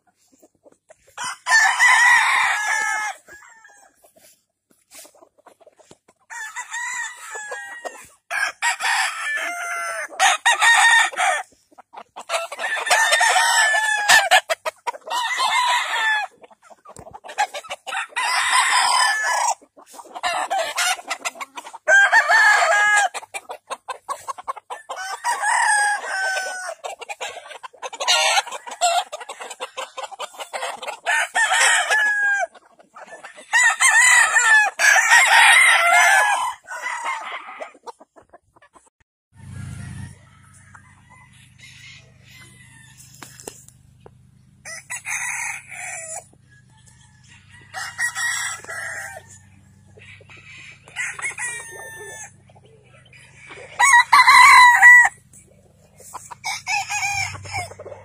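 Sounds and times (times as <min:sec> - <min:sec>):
roosters crowing: 0:01.0 - 0:05.0, 0:06.2 - 0:37.9, 0:39.4 - 0:43.7, 0:44.3 - 0:58.0.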